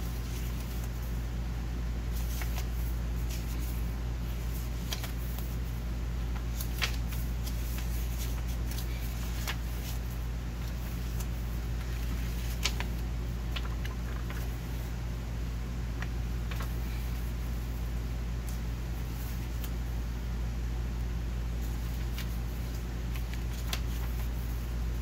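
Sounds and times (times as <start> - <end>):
paper pages rustling: 0.0 - 1.3, 2.0 - 15.0, 16.0 - 19.9, 21.6 - 25.0.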